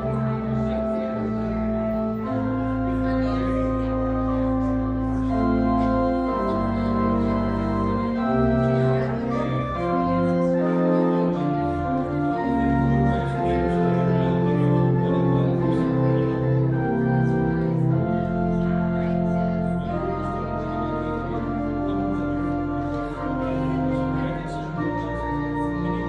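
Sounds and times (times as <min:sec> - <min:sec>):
organ playing sustained chords: 0:00.0 - 0:26.0.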